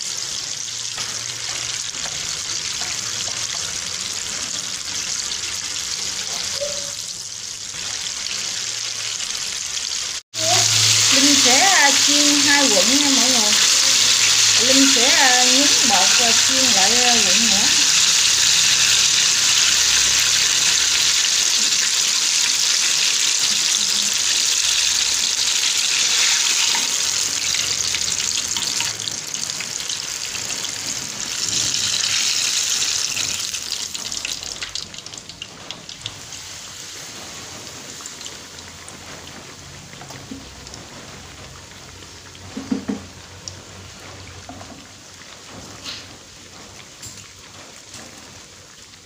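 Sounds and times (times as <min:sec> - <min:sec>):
fritters deep-frying in oil: 0:00.0 - 0:49.0.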